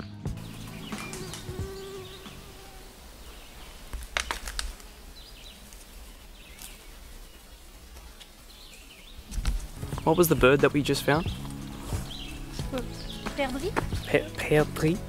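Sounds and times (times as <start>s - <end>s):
fly buzzing: 0.4s - 15.0s.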